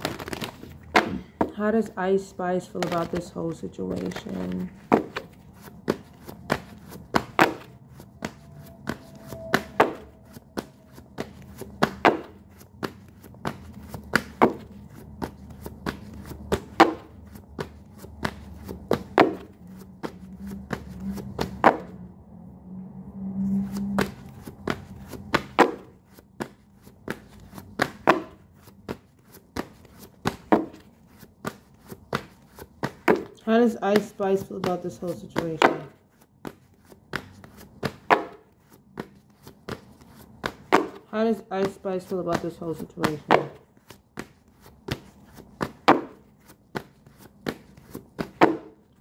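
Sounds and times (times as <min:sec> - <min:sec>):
cards being shuffled: 0:00.0 - 0:01.6, 0:02.5 - 0:21.9, 0:23.5 - 0:49.0.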